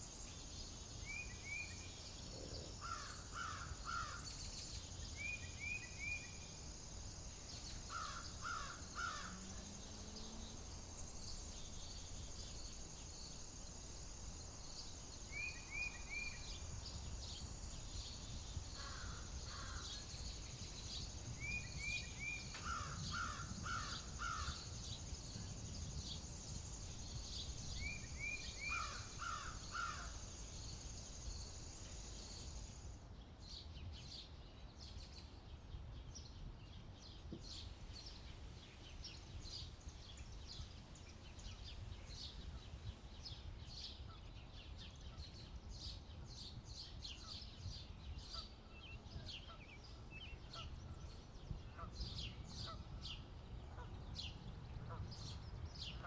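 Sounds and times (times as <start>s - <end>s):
low rumble of wind: 0.0s - 56.0s.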